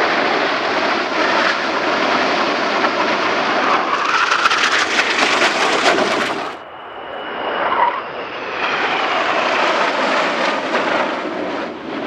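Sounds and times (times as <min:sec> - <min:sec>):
fighter jets roaring past: 0:00.0 - 0:12.0
jet engine whine: 0:00.0 - 0:12.0.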